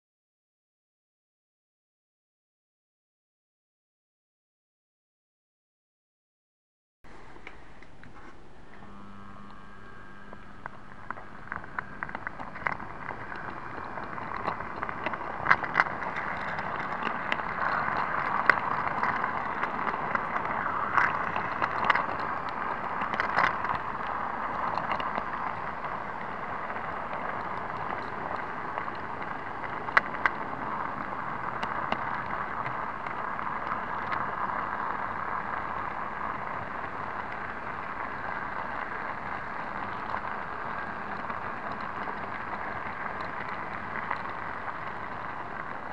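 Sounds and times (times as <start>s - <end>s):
model locomotive whirring rattle: 7.2s - 45.9s.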